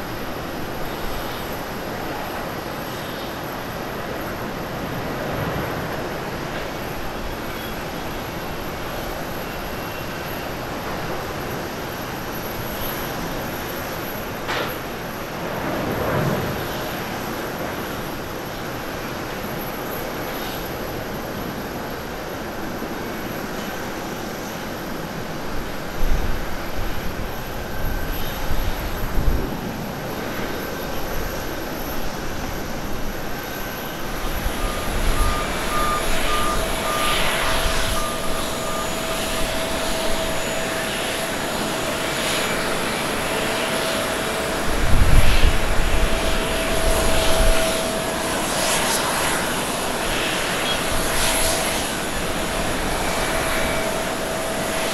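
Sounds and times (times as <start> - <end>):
jet engine roar: 0.0 - 54.9
steady engine whine: 0.0 - 54.9.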